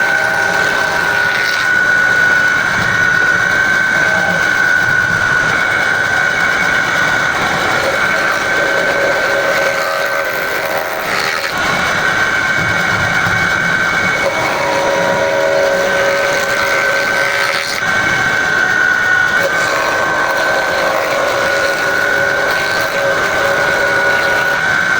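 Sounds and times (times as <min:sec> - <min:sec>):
woodworking machine whining: 0:00.0 - 0:24.9.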